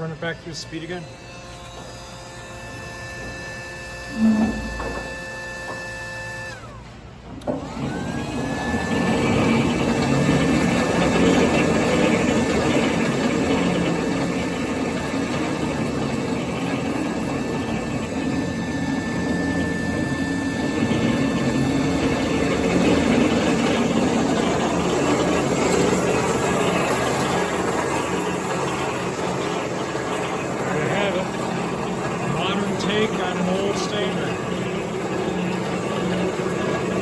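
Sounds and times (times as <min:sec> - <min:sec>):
band saw running: 0:00.0 - 0:06.8, 0:07.4 - 0:37.0.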